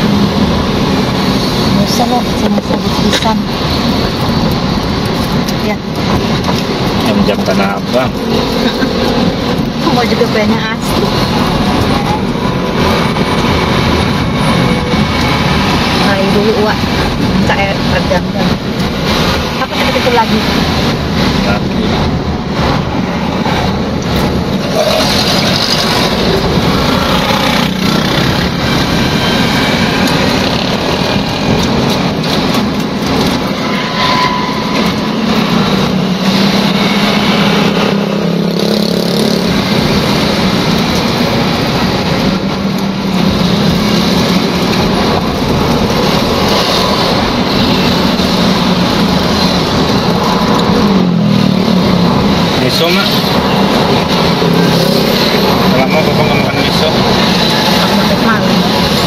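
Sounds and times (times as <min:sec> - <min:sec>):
car engine and road noise: 0:00.0 - 0:59.0
surrounding traffic: 0:00.0 - 0:59.0.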